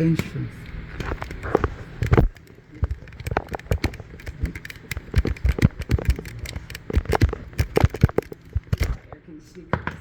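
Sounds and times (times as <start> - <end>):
cables being handled: 0.2 - 9.2.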